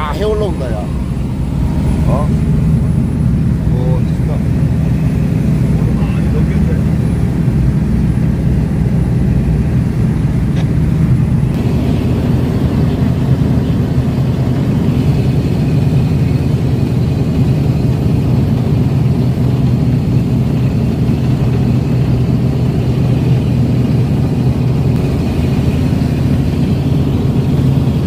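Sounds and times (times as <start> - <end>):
boat engine droning: 0.0 - 28.0
water churning in wake: 0.0 - 28.0.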